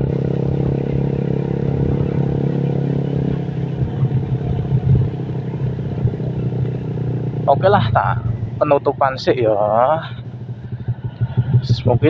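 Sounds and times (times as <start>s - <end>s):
road noise: 0.0s - 12.0s
scooter engine droning: 0.0s - 12.0s.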